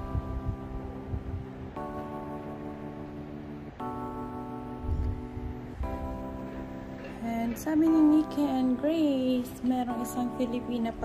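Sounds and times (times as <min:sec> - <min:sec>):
soft sustained chords music: 0:00.0 - 0:11.0.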